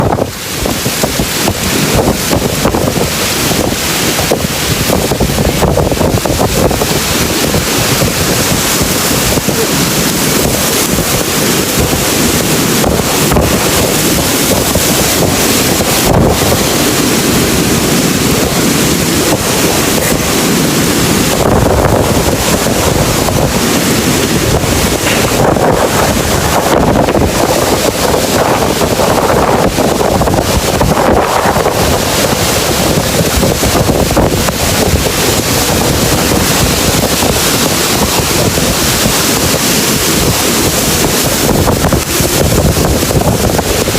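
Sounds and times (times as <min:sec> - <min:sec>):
strong wind with rain: 0:00.0 - 0:43.9
wind buffeting microphone: 0:00.0 - 0:43.9.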